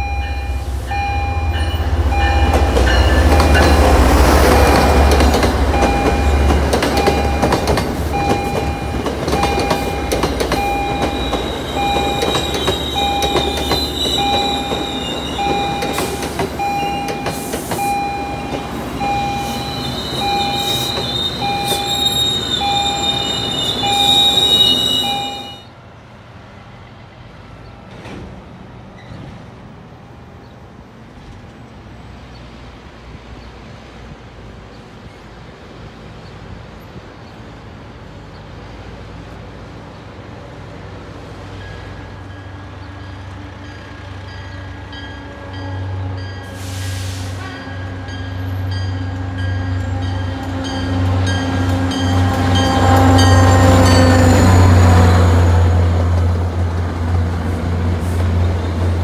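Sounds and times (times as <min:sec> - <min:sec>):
diesel locomotive engine hum: 0:00.0 - 0:59.0.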